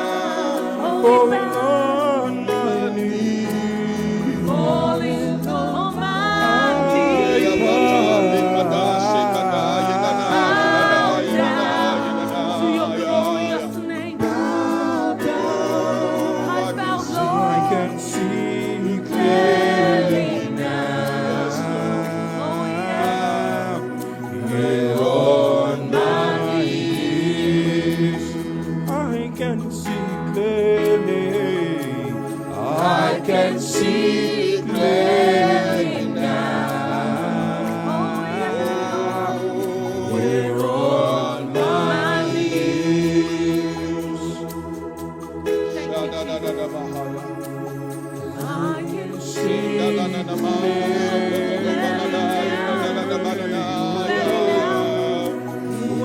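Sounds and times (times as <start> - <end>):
held chords: 0.0 - 56.0
voices singing long notes: 0.0 - 56.0.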